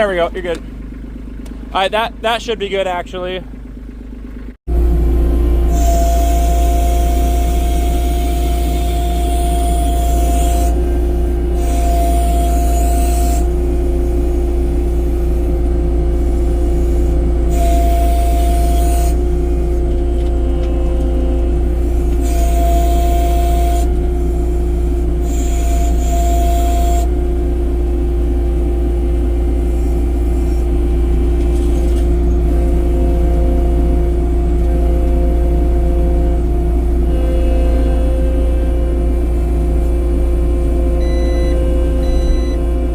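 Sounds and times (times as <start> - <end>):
high whine: 0.0 - 42.9
vehicle engine rumbling: 0.0 - 42.9.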